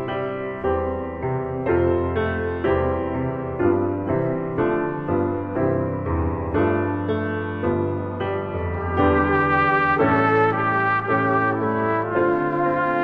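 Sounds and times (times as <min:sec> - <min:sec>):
piano playing chords: 0:00.0 - 0:13.0.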